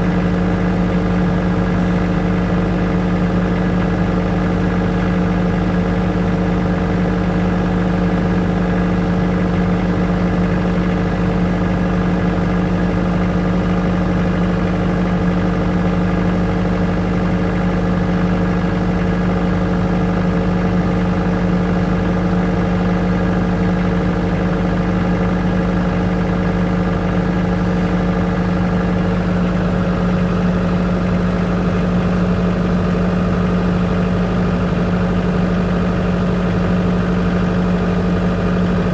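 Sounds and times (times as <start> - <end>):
generator humming: 0.0 - 38.9.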